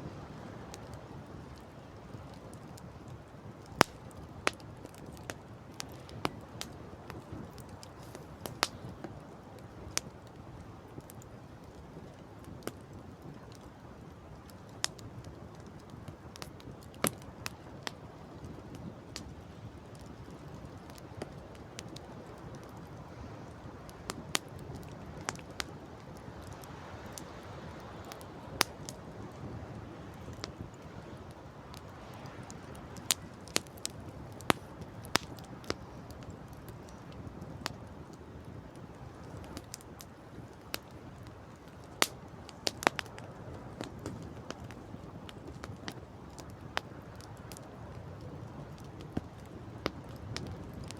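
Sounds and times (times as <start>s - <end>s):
campfire crackling: 0.0s - 50.9s
wind: 0.0s - 50.9s
burning wood popping: 0.7s - 50.9s.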